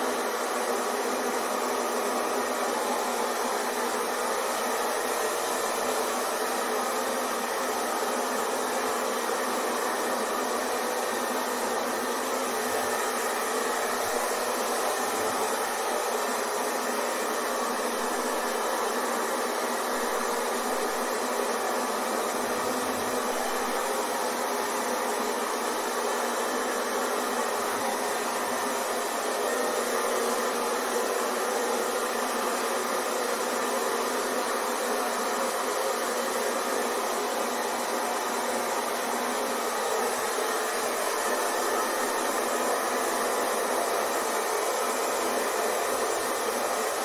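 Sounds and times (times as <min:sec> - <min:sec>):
hair dryer running: 0:00.0 - 0:47.0.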